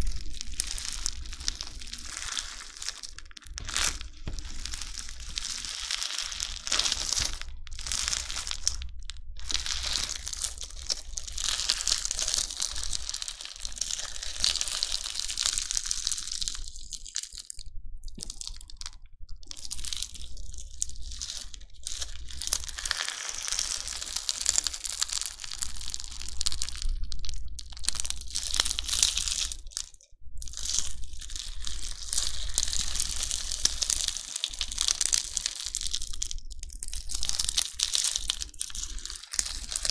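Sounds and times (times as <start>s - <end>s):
slime foam beads crackling: 0.0s - 39.9s.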